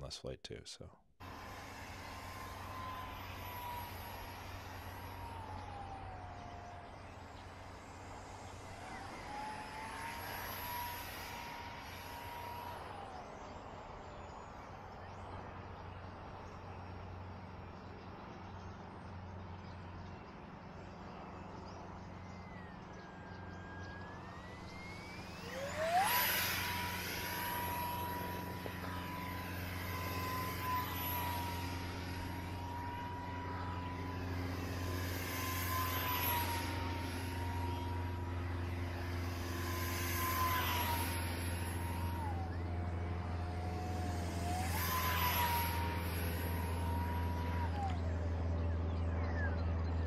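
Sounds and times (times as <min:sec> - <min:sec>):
steady low hum: 0:00.0 - 0:50.0
electric motor whining: 0:01.2 - 0:14.8, 0:20.8 - 0:50.0.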